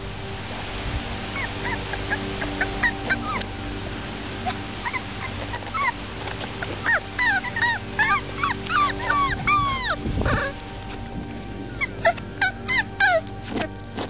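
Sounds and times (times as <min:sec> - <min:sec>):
puppies whining and yipping: 0:01.3 - 0:03.6, 0:04.4 - 0:11.2, 0:11.8 - 0:14.0.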